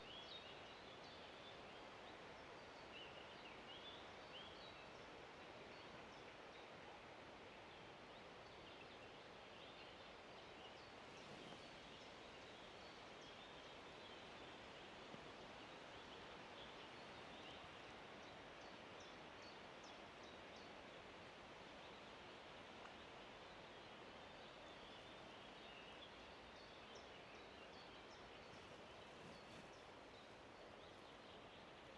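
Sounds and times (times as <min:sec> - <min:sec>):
soft steady hiss: 0:00.0 - 0:31.9.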